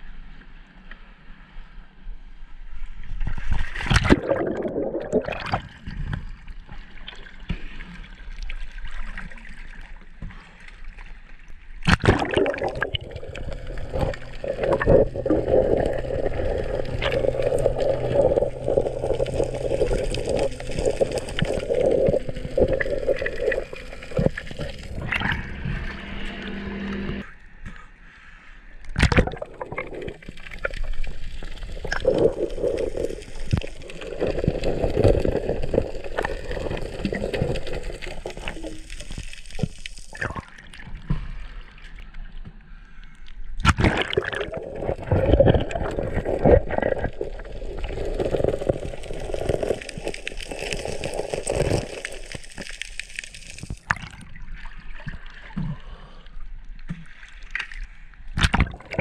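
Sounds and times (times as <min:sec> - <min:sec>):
water gurgling and sloshing: 0:02.5 - 0:27.5, 0:28.8 - 0:43.0, 0:43.6 - 0:59.0.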